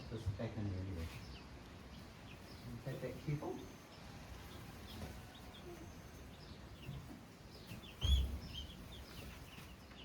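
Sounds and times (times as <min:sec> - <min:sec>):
baby chicks cheeping: 0:00.0 - 0:10.0.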